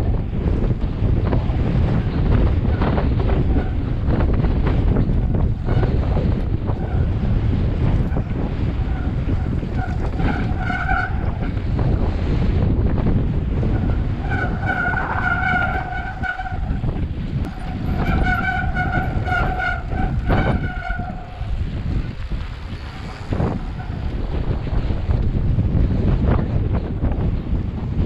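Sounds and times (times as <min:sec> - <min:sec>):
tyres rumbling on dirt trail: 0:00.0 - 0:28.0
wind on camera: 0:00.0 - 0:28.0.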